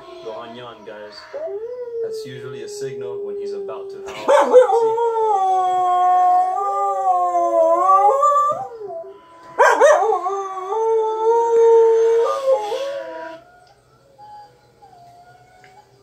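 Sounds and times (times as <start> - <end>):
dogs howling: 0.0 - 16.0.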